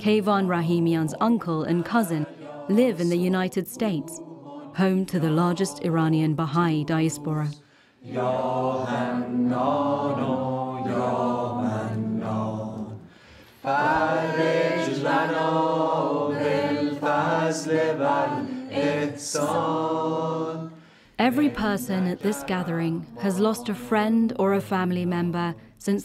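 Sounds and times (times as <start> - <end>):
devotional chanting: 0.0 - 25.6.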